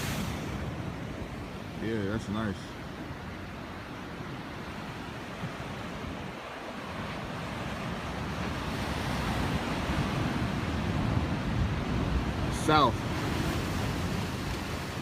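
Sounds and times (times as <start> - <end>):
ocean surf breaking: 0.0 - 15.0
wind on microphone: 3.0 - 15.0.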